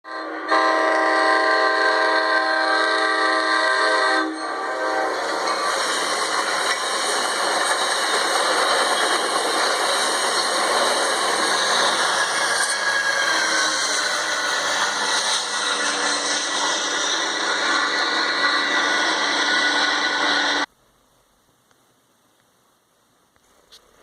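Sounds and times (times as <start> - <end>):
train horn: 0.0 - 20.7
train running on track: 0.1 - 20.7.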